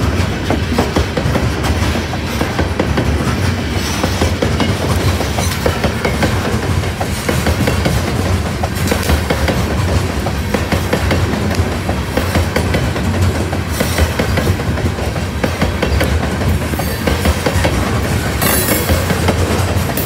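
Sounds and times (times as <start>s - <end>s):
train wheels clacking on rail joints: 0.0s - 20.0s.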